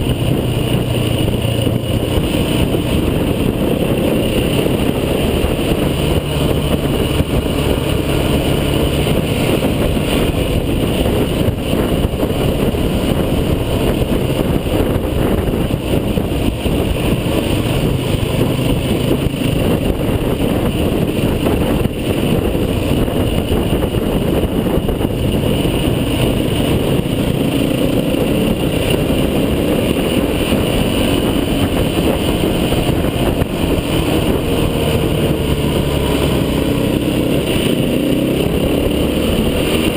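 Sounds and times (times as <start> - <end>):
off-road vehicle engine driving: 0.0 - 39.9.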